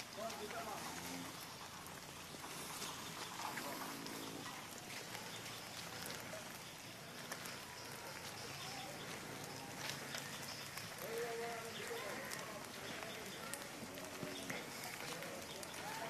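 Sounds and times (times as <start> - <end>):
light rain pattering: 0.0 - 16.0.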